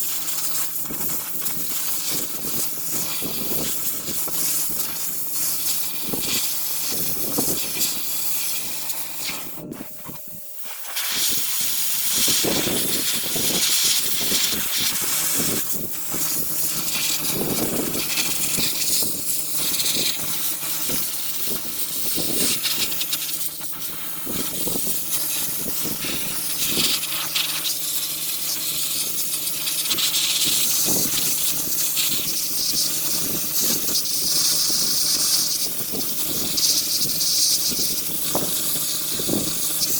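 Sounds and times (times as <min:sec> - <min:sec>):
sandblaster hissing: 0:00.0 - 0:39.9
steady low hum: 0:00.0 - 0:39.9.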